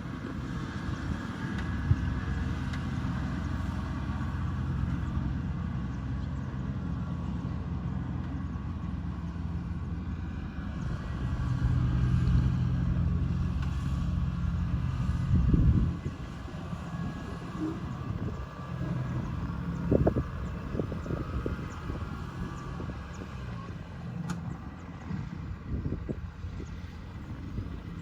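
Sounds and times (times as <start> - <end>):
combine harvester engine humming: 0.0 - 28.0.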